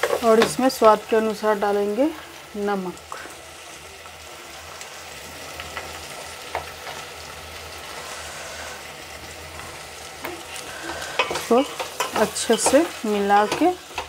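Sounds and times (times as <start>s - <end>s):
vegetables sizzling in a pot: 0.0s - 14.0s.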